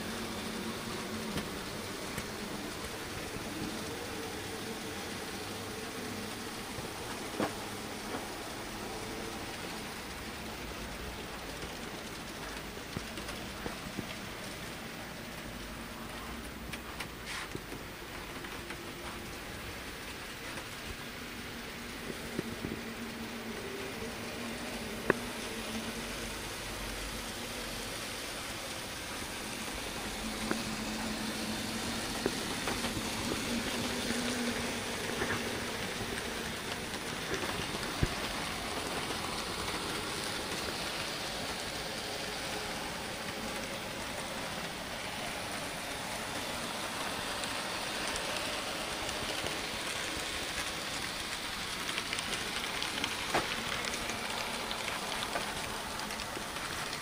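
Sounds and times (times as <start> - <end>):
model train rolling hiss: 0.0 - 57.0.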